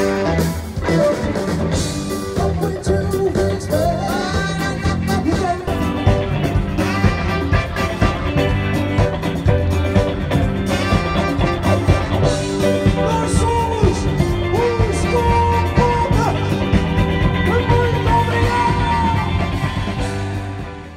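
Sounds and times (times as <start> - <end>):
rock and roll music: 0.0 - 20.9
drum beat: 0.3 - 20.9.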